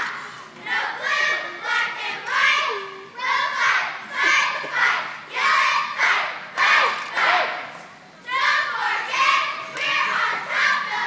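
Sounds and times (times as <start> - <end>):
girls shouting a cheer in unison: 0.0 - 11.0.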